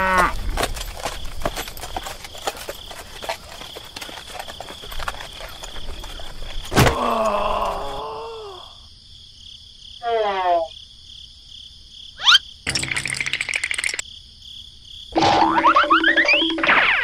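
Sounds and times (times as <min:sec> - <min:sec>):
insects chirping: 0:00.0 - 0:16.6.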